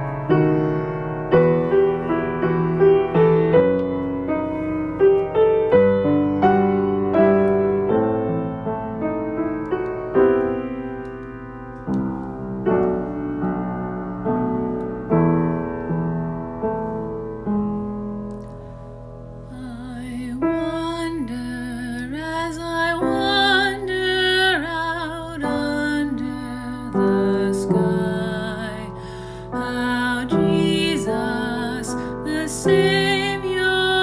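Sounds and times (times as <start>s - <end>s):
slow solo piano piece: 0.0s - 34.0s.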